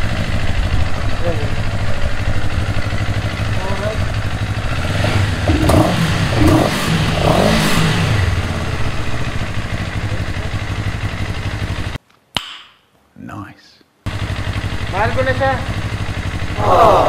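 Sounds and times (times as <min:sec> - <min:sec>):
motorcycle engine idling and revving: 0:00.0 - 0:12.0, 0:14.1 - 0:17.0.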